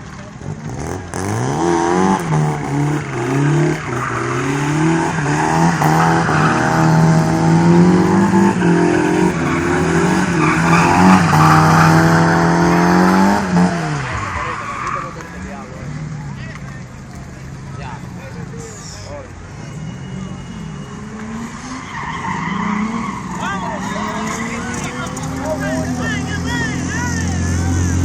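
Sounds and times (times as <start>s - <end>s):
small car engine revving: 0.1s - 16.4s, 19.4s - 28.0s.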